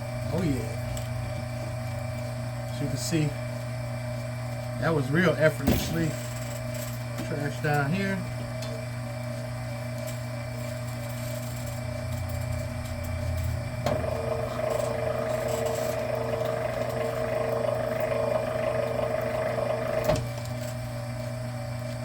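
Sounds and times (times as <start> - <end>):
wire stripping machine motor whine: 0.0 - 22.0.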